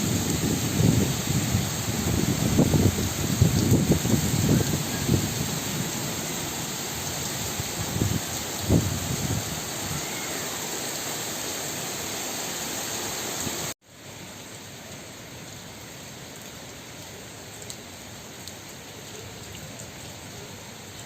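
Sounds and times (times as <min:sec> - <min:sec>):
heavy rain on hard surfaces: 0:00.0 - 0:21.0.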